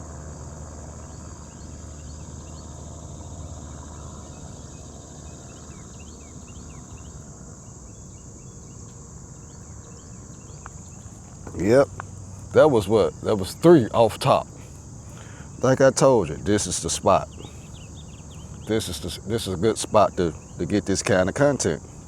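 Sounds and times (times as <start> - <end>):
high insect drone: 0.0 - 22.0
low steady rumble: 0.0 - 22.0
small birds chirping: 0.0 - 22.0.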